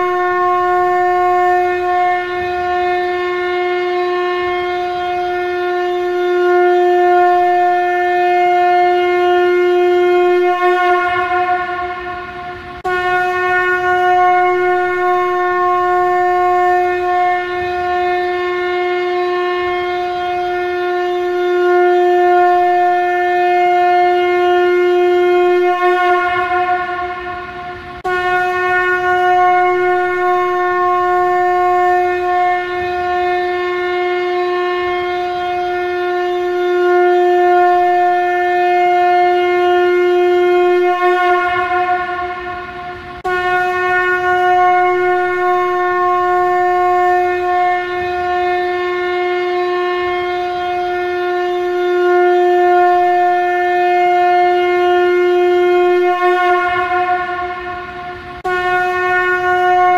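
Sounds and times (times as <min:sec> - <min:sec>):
conch shell trumpet blasts: 0:00.0 - 0:59.9.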